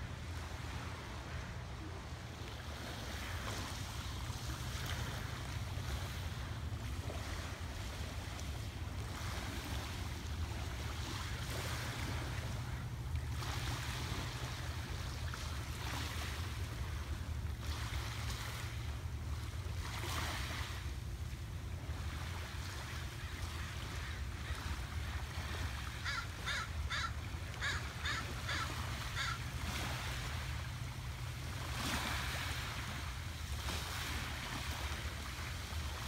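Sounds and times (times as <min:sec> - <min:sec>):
waves lapping on gravel beach: 0:00.0 - 0:22.8, 0:24.8 - 0:36.0.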